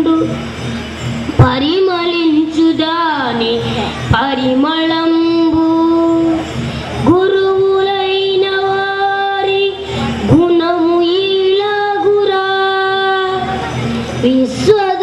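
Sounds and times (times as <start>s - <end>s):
boy singing into a microphone: 0.0s - 0.4s, 1.3s - 15.0s.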